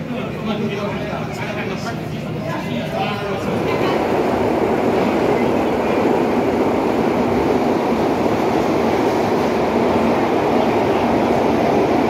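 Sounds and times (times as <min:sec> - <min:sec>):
subway car wheels rumbling: 0:00.0 - 0:12.0.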